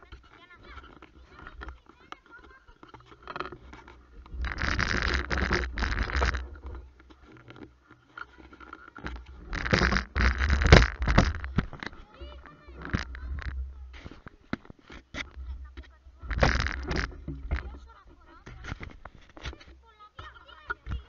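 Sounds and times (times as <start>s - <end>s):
camera handling scraping: 0.0s - 19.8s.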